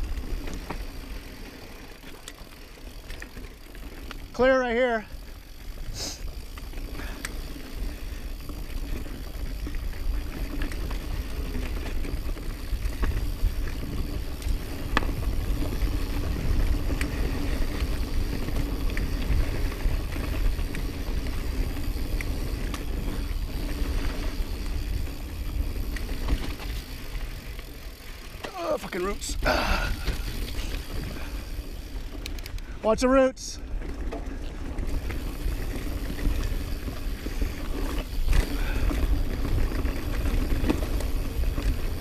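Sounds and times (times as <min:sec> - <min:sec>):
bike clicks and rattles: 0:00.0 - 0:42.0
bike tyre noise on dirt: 0:00.0 - 0:42.0.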